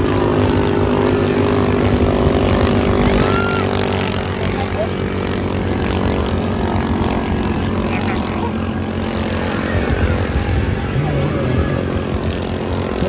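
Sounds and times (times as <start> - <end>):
racing boat engines droning: 0.0 - 13.0.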